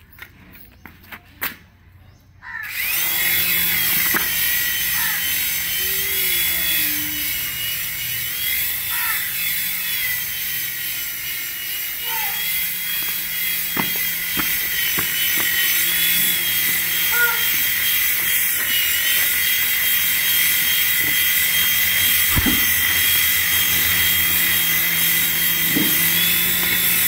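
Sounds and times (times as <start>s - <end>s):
toy helicopter motor whine: 2.4s - 27.0s
rotor whoosh: 2.8s - 27.0s.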